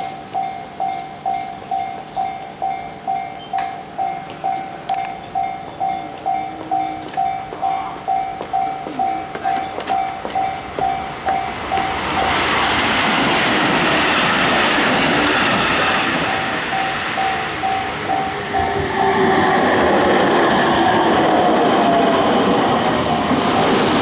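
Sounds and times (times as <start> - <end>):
level crossing warning bell: 0.0 - 12.5, 15.4 - 24.0
train rumble and wheel noise: 0.0 - 24.0.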